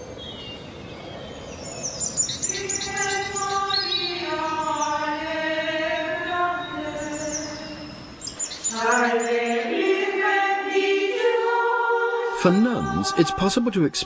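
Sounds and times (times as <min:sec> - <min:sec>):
birds chirping: 0:00.0 - 0:11.4, 0:12.1 - 0:14.0
women singing a religious chant: 0:02.4 - 0:13.9.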